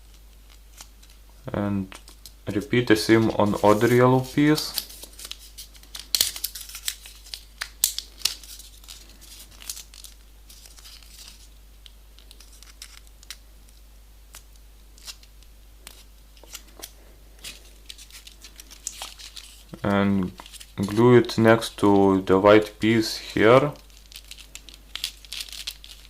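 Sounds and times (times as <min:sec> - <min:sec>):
paper crinkling and crackling: 0:01.8 - 0:26.0.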